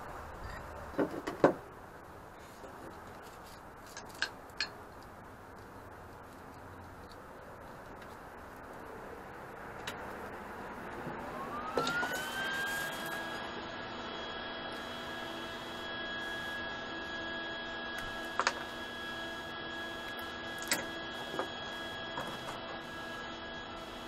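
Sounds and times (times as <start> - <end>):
welder cooling fan whine and hum: 0.0 - 24.0.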